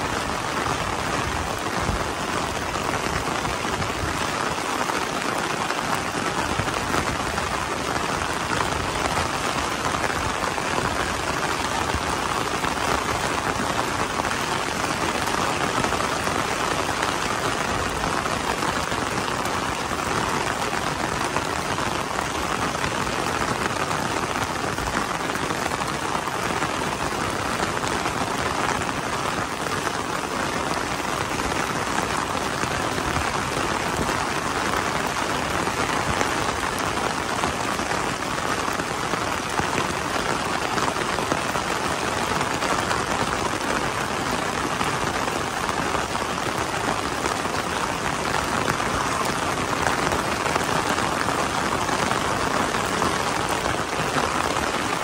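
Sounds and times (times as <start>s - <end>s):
rain pattering on umbrella: 0.0s - 55.0s.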